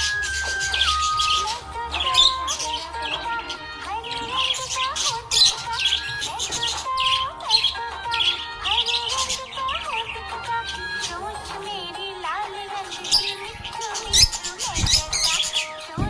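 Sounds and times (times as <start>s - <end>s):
budgerigar chirping: 0.0s - 11.2s, 12.8s - 16.0s
background music: 0.0s - 16.0s.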